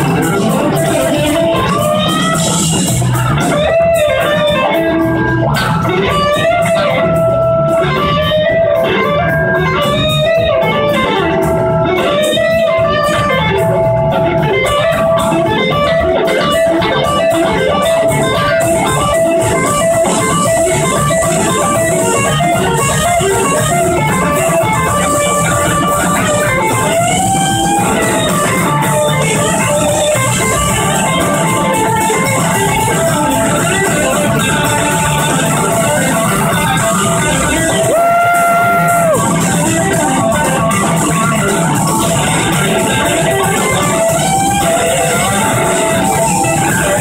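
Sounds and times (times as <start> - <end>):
bass: 0.0 - 47.0
drums: 0.0 - 47.0
electric guitars: 0.0 - 47.0.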